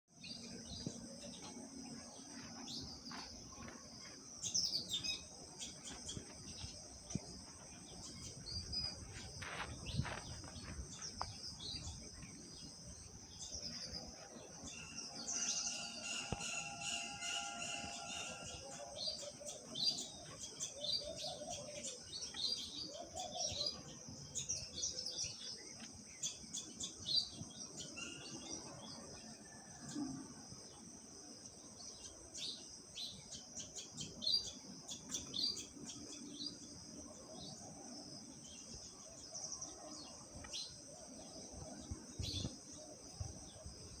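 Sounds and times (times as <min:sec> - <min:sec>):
steady high-pitched hiss: 0:00.1 - 0:44.0.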